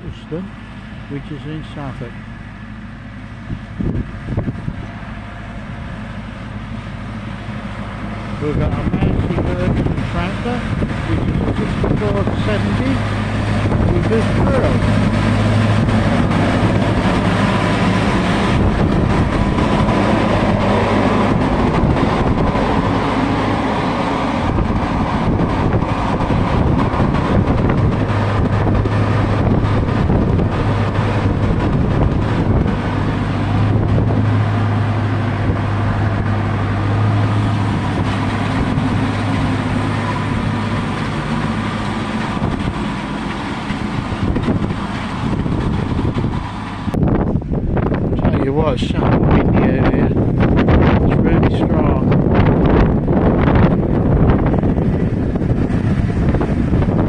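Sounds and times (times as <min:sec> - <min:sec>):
tractor diesel engine running: 0:00.0 - 0:57.0
wind buffeting microphone: 0:00.0 - 0:57.0.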